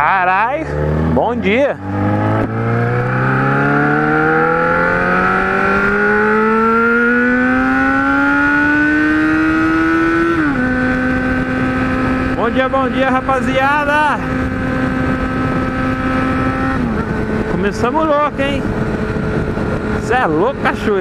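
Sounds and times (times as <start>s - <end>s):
motorcycle engine under throttle: 0.5s - 21.0s.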